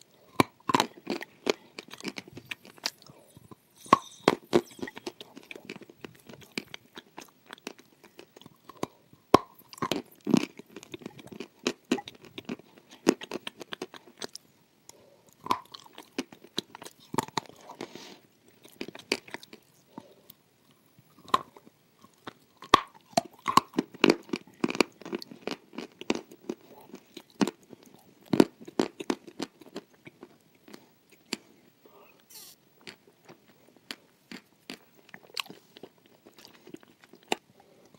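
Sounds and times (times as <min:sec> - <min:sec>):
crunching and chewing clay: 0:00.0 - 0:31.6, 0:32.8 - 0:37.9.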